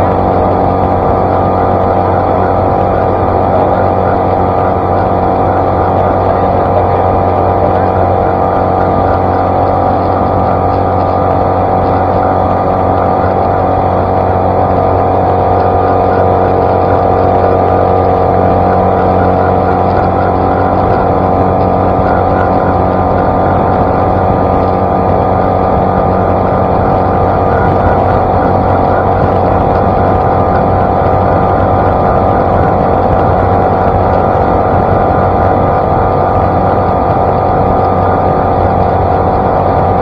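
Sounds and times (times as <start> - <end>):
outboard motor running fast: 0.0 - 40.0
water rushing along hull: 0.0 - 40.0.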